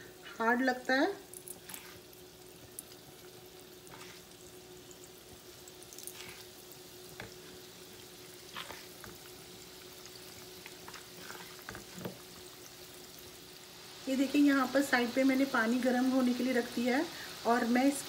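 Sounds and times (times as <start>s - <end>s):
oil sizzling and bubbling: 0.0s - 18.0s.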